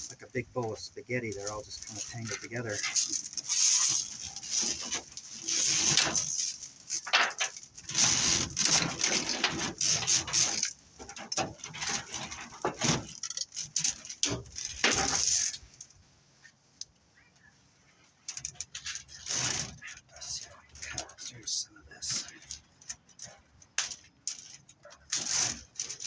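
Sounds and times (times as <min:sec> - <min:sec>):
metal cable rattling and scraping: 0:00.0 - 0:26.0.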